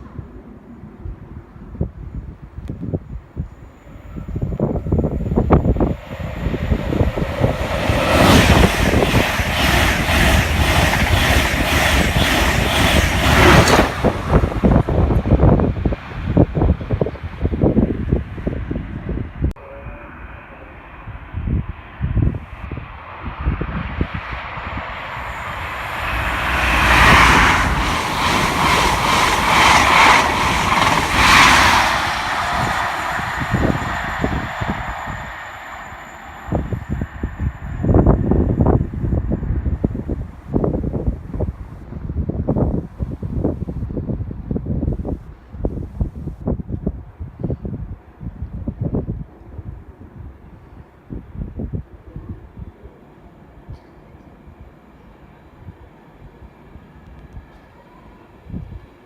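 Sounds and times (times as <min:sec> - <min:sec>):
wind buffeting microphone: 0:00.0 - 0:19.6, 0:21.0 - 0:52.8
train passing at speed: 0:00.0 - 0:45.8, 0:46.4 - 0:59.0.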